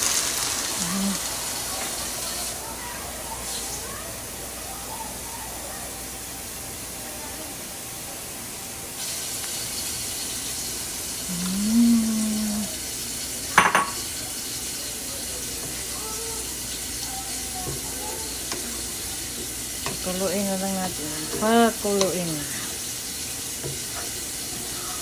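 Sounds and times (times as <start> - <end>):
pot hissing on stove: 0.0 - 5.6, 6.2 - 25.0.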